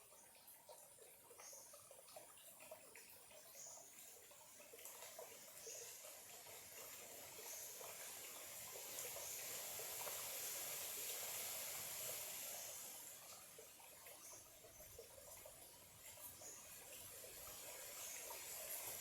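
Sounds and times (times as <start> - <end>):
stream trickling: 0.0 - 19.0.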